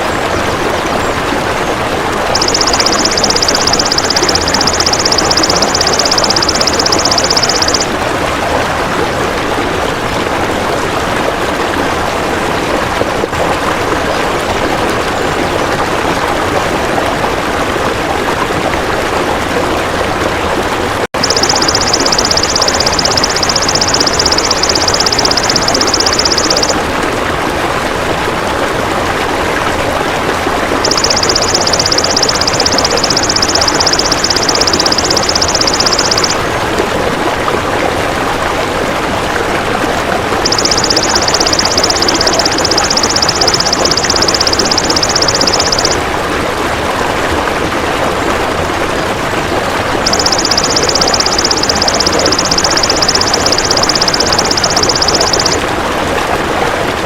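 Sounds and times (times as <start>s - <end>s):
steady rushing background noise: 0.0s - 18.1s, 21.2s - 27.8s, 28.8s - 46.9s, 49.8s - 56.9s.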